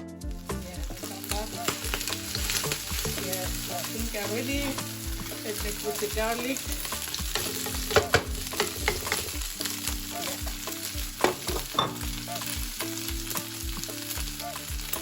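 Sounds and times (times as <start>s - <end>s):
afrobeat music: 0.0s - 15.0s
food sizzling in hot oil: 0.2s - 15.0s.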